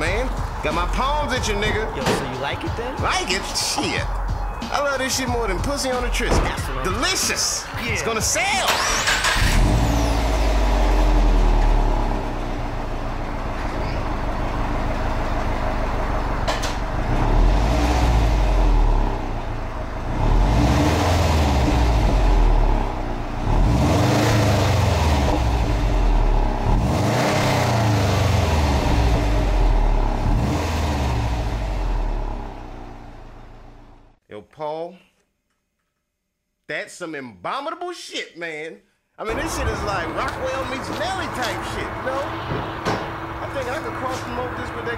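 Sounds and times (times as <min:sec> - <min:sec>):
car exhaust idling and revving: 0:00.0 - 0:07.1, 0:09.4 - 0:34.2, 0:39.3 - 0:44.9.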